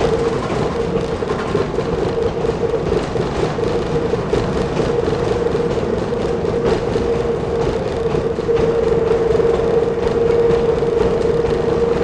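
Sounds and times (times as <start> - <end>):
engine drone with humming tone: 0.0 - 12.0
wheels rumbling on rail: 0.0 - 12.0.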